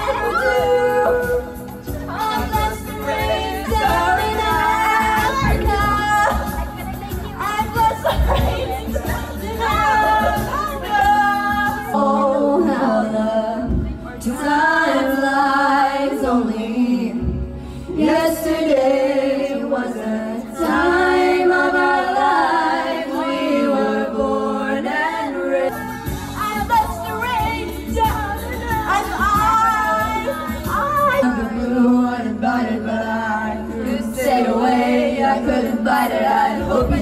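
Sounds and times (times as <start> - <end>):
women singing karaoke: 0.0 - 37.0.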